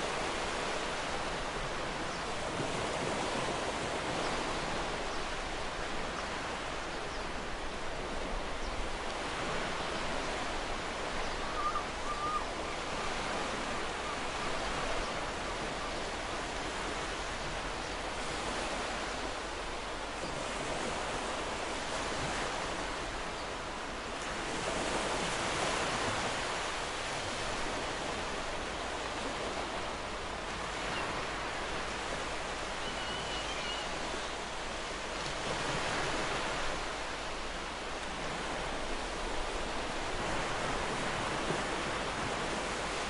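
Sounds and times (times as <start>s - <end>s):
ocean surf on sandy beach: 0.0s - 43.0s.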